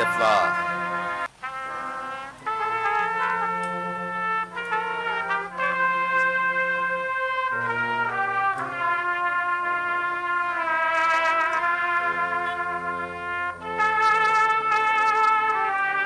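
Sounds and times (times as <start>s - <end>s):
brass band playing slow tune: 0.0s - 16.0s.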